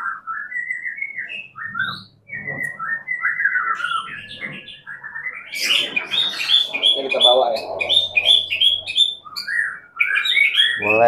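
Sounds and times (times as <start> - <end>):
bird singing whistled phrases: 0.0 - 11.0.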